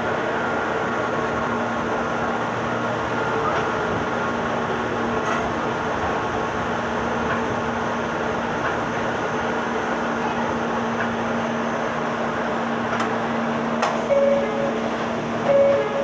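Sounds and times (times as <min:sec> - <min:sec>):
electric train hum and rumble: 0:00.0 - 0:16.0.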